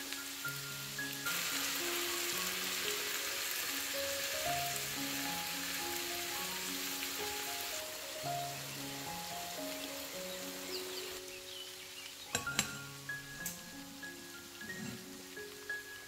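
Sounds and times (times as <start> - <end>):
mushrooms sizzling in a pan: 0.0 - 16.0
slow background music: 0.0 - 16.0.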